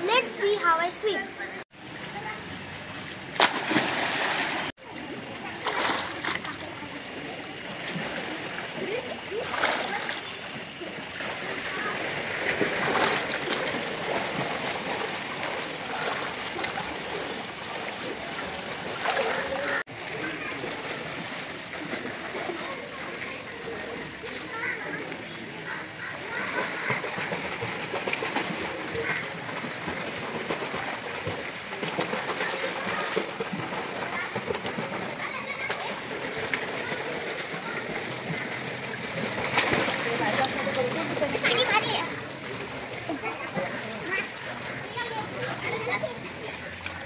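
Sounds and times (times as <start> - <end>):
pool water splashing: 0.0 - 47.0.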